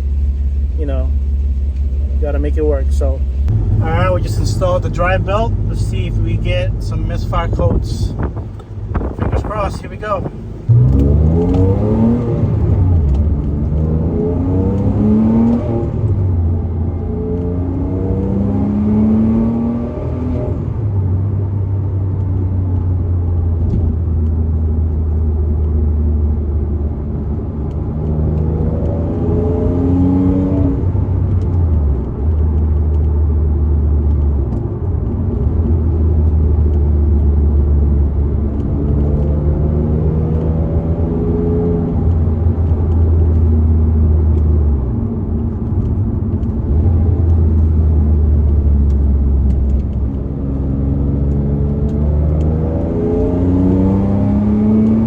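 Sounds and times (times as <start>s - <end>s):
car engine revving under load: 0.0s - 55.0s.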